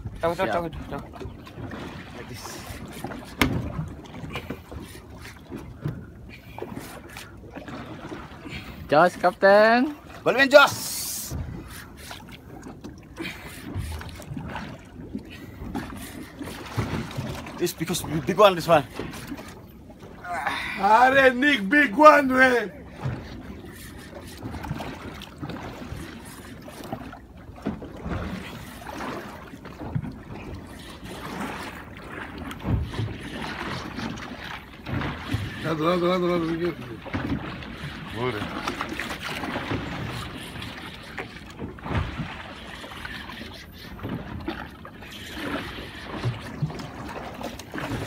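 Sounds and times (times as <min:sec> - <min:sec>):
water lapping against boat hull: 0:00.0 - 0:48.0
wind: 0:00.0 - 0:48.0.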